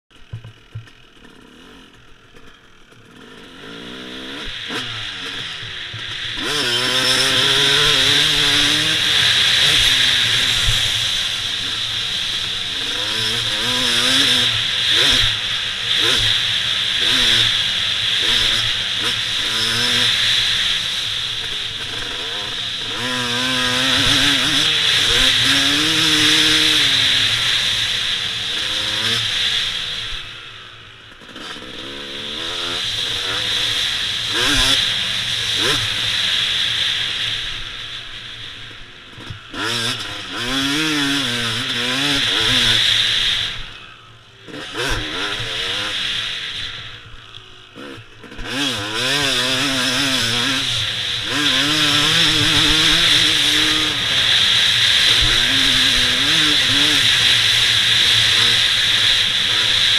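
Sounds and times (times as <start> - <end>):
dirt bike engine revving: 0.1 - 59.9.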